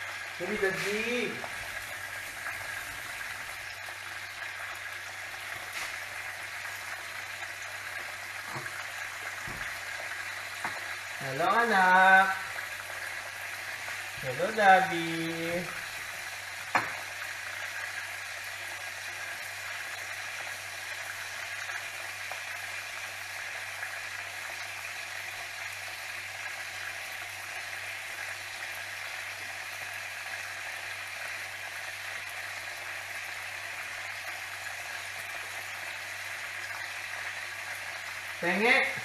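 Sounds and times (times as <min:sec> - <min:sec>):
chicken sizzling in hot oil: 0:00.0 - 0:39.0.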